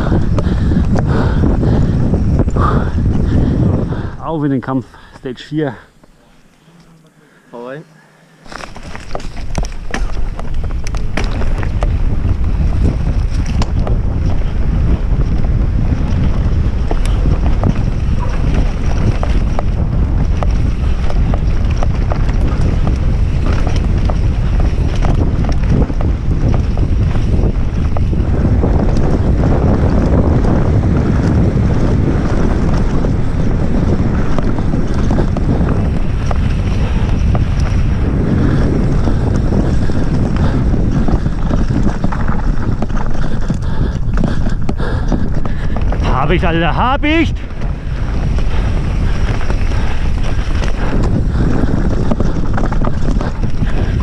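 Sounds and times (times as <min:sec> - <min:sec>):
bike clattering over bumps: 0:00.0 - 0:04.2, 0:08.4 - 0:54.0
wind rushing over microphone: 0:00.0 - 0:07.0, 0:08.3 - 0:54.0
tyres rumbling on dirt: 0:08.4 - 0:54.0.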